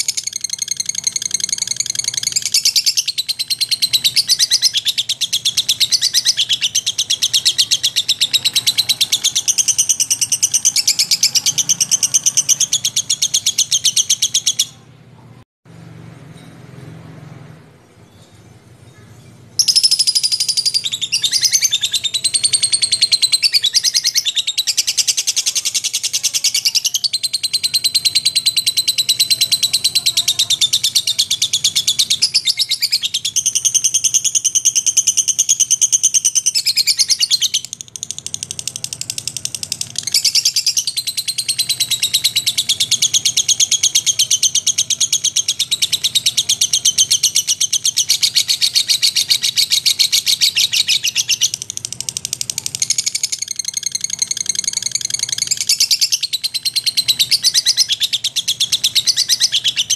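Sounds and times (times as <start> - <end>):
bird high-pitched chattering trill: 0.0 - 14.9, 18.9 - 59.9.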